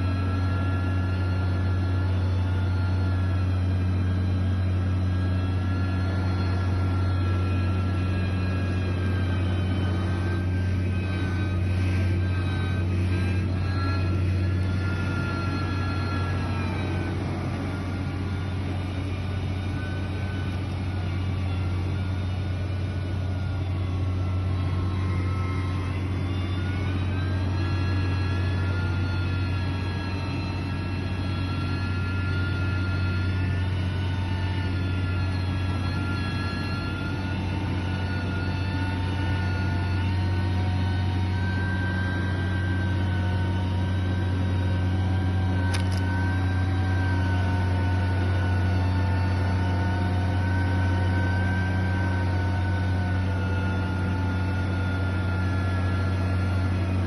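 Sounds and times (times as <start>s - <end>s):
diesel machinery engine running: 0.0s - 57.0s.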